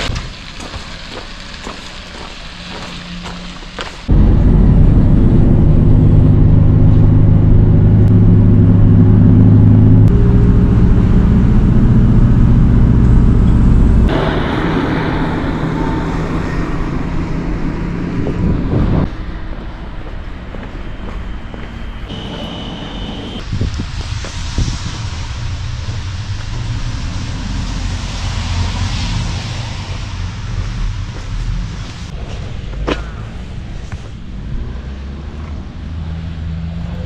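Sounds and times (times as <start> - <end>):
road and wind noise: 0.0 - 37.0
vehicle engine drone: 0.0 - 37.0.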